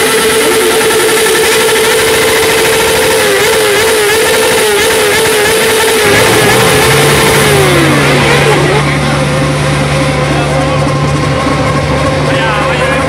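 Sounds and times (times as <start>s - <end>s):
lower engine note: 0.0s - 13.0s
motorcycle engine revving high: 0.0s - 13.0s.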